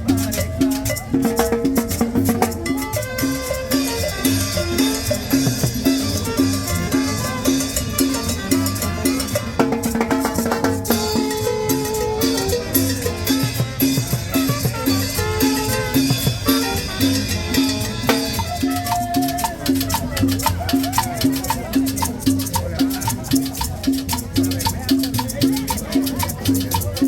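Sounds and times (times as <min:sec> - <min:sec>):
latin dance music: 0:00.0 - 0:27.0.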